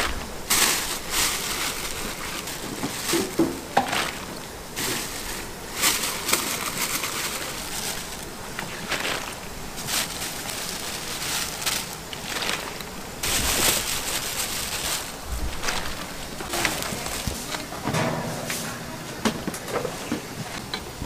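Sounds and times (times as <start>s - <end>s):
pots and utensils clinking: 0.0s - 21.0s
steady background noise: 0.0s - 21.0s.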